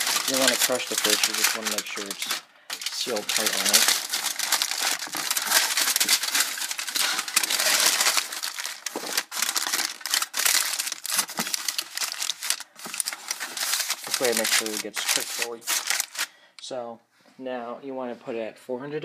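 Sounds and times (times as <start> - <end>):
aluminium foil crumpling: 0.0 - 16.3.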